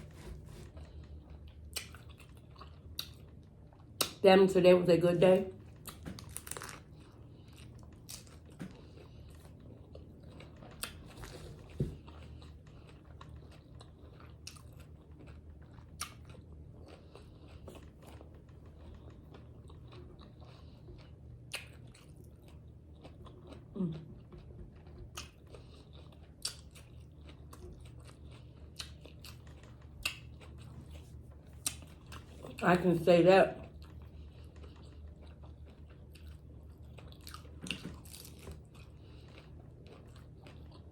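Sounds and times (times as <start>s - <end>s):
wet chewing with crunches: 0.0s - 4.2s, 5.6s - 32.6s, 33.6s - 40.9s.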